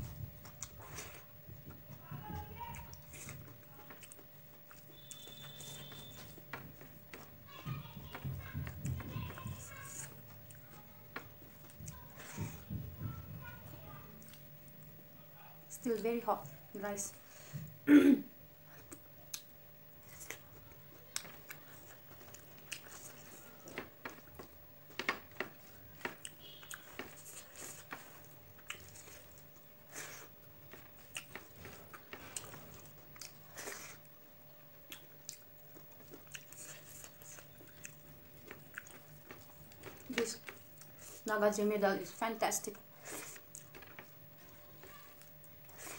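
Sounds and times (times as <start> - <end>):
person chewing food: 0.0 - 12.8, 14.2 - 14.8, 18.6 - 41.3, 42.7 - 45.9.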